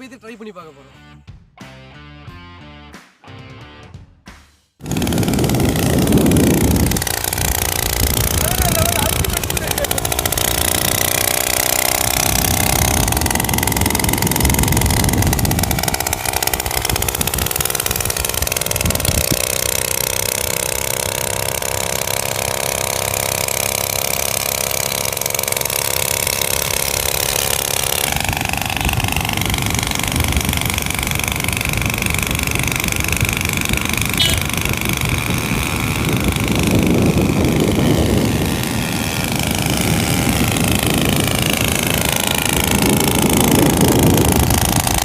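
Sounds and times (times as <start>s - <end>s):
moped engine running loudly: 4.8s - 45.0s.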